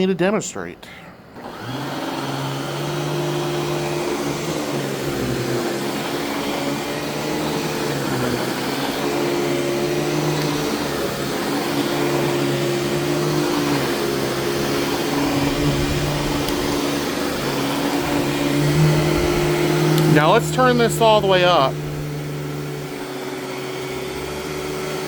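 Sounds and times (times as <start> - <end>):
vacuum cleaner running on carpet: 1.4 - 25.0.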